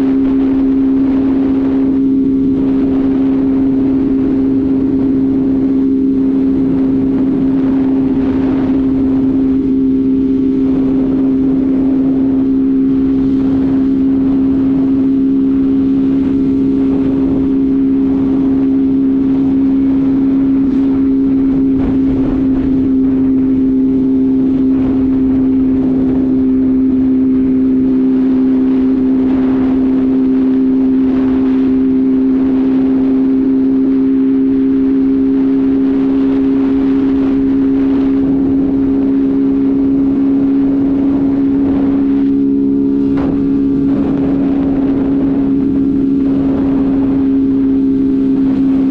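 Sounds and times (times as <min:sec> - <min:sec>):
motorcycle engine cruising: 0:00.0 - 0:48.9
wind on microphone: 0:00.0 - 0:48.9.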